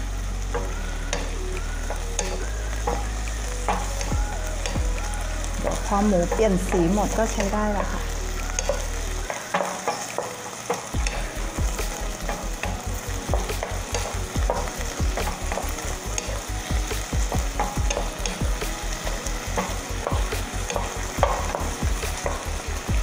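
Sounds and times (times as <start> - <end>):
meat sizzling: 0.0 - 23.0
spatula scraping and knocking pan: 0.5 - 23.0.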